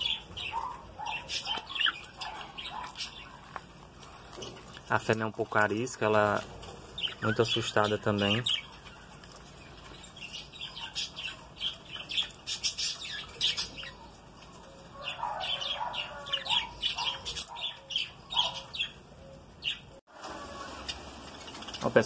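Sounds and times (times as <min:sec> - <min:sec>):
budgerigars chirping and squawking: 0:00.0 - 0:20.0, 0:20.6 - 0:22.0.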